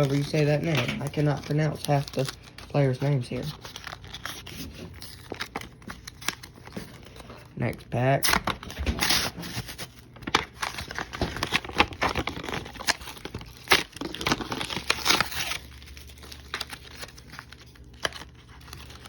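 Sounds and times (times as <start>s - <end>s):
wrapper crinkling and tearing: 0.0s - 19.0s
wrapper rustling: 0.0s - 19.0s.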